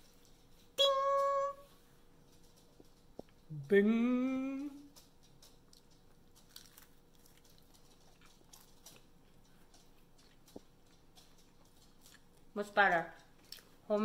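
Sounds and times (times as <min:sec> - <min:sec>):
faint crunchy chewing: 0:01.8 - 0:03.7, 0:04.5 - 0:14.0.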